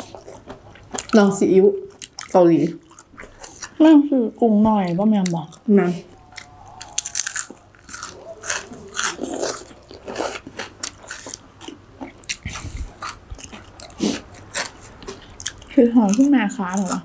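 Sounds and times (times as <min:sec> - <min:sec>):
crunchy chewing: 0:00.0 - 0:03.9, 0:04.8 - 0:17.0.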